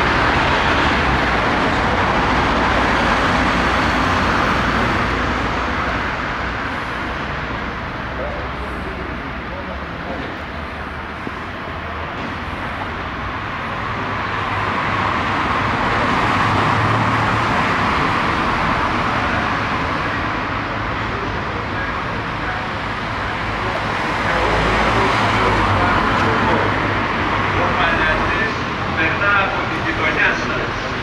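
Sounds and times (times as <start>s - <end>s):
street traffic passing: 0.0s - 31.0s.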